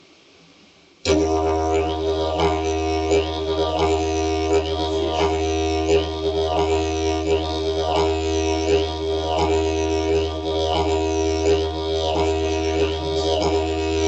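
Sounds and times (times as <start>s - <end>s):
didgeridoo drone: 1.1s - 14.0s.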